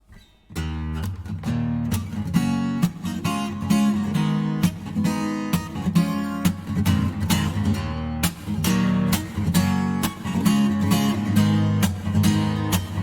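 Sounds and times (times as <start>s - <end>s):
acoustic guitar strumming chords: 0.6s - 13.0s.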